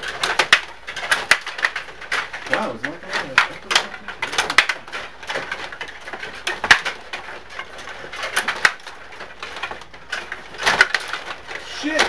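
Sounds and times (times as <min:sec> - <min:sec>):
table hockey rods clicking: 0:00.0 - 0:12.0.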